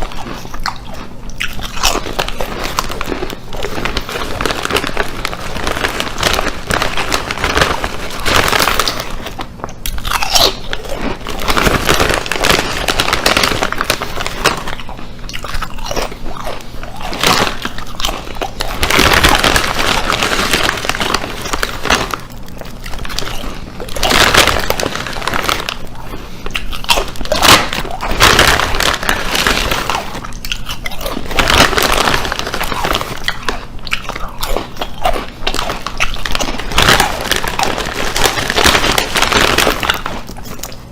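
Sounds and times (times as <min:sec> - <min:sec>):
crunching potato chips: 0:00.0 - 0:40.9.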